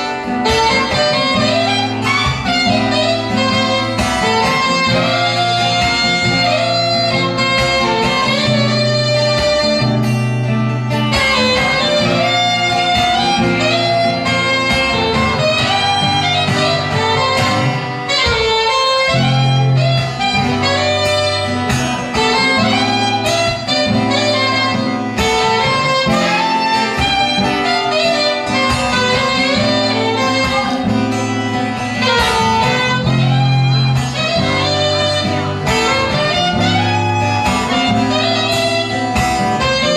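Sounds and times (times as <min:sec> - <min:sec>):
acoustic guitar: 0:00.0 - 0:39.9
saxophone melody: 0:00.0 - 0:39.9.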